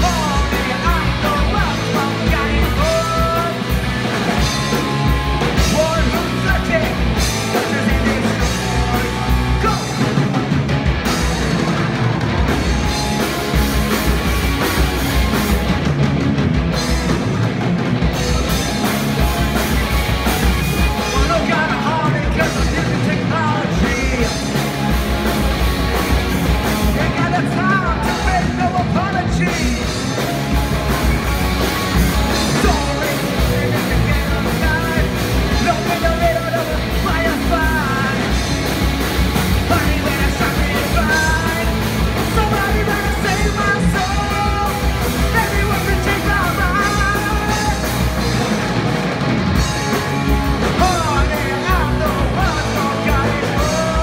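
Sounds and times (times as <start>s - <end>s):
live punk rock band: 0.0s - 54.0s.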